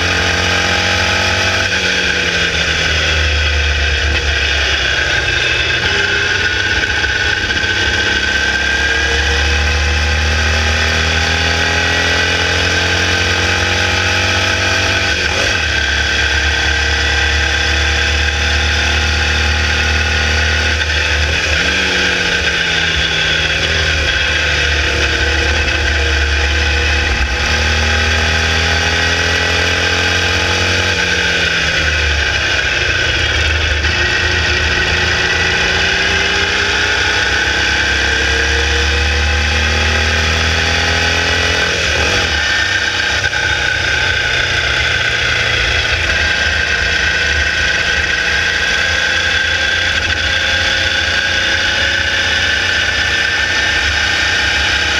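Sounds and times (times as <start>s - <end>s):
race car engine at speed: 0.0s - 54.9s.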